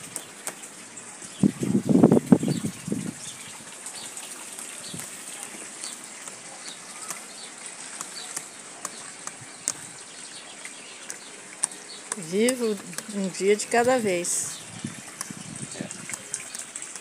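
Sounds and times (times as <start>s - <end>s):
small birds chirping: 0.0s - 17.0s
steady outdoor hiss: 0.0s - 17.0s.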